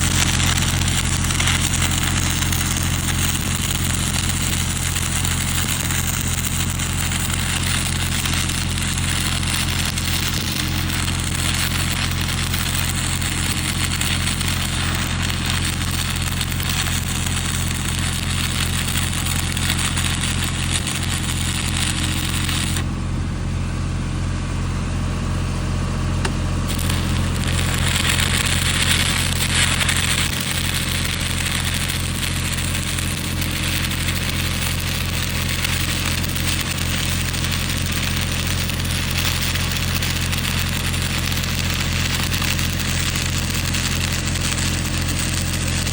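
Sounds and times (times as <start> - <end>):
welding arc crackling: 0.0 - 23.0, 26.2 - 45.9
low electrical hum: 0.0 - 45.9.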